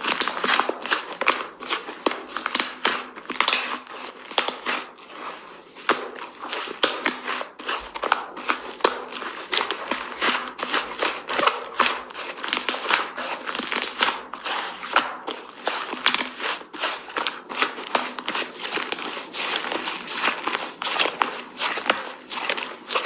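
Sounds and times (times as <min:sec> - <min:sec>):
slime crackling and popping: 0:00.1 - 0:04.9, 0:05.8 - 0:23.0.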